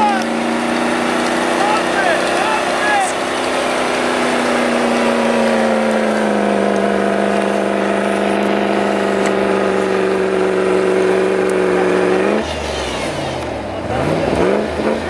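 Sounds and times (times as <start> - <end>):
engine at high revs: 0.0 - 15.0.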